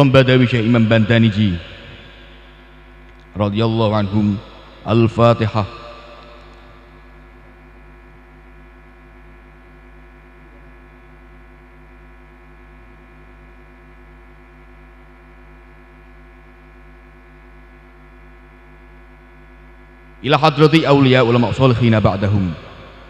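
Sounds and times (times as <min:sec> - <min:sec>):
electrical hum with fixed tones: 0:00.0 - 0:23.0.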